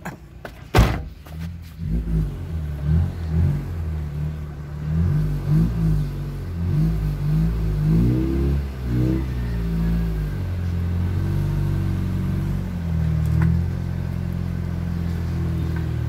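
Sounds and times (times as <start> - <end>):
car engine at low revs: 0.0 - 16.0.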